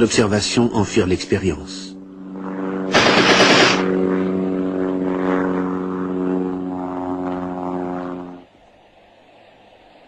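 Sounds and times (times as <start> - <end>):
propeller plane engine overhead: 0.0 - 10.0.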